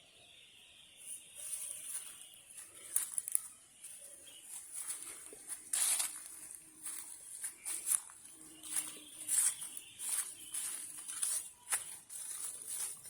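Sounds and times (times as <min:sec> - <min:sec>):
short rustles or crunches: 0:01.0 - 0:13.0.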